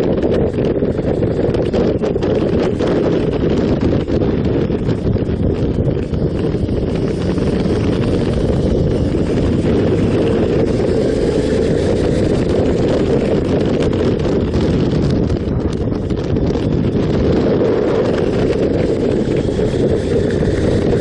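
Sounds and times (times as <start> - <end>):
motorcycle engine: 0.0 - 21.0
road noise: 0.0 - 21.0
wind buffeting microphone: 0.0 - 21.0.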